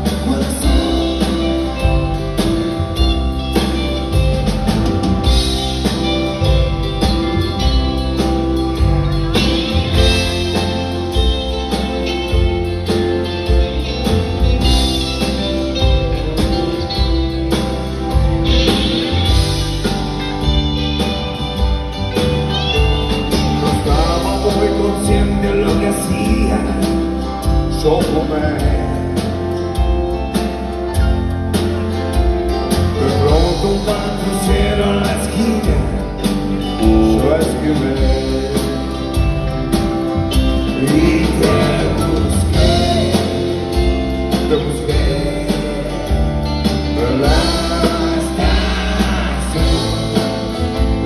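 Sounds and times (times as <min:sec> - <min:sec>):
live rock band playing: 0:00.0 - 0:51.0.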